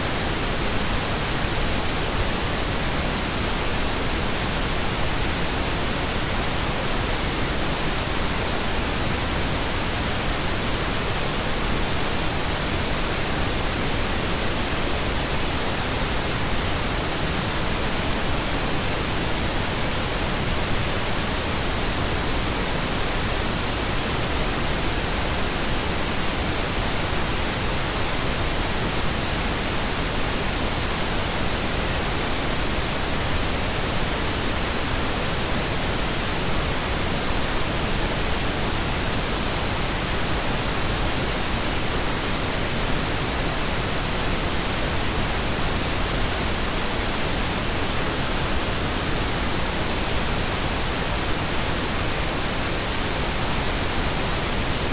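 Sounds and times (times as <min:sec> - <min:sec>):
pink noise hiss: 0:00.0 - 0:54.9.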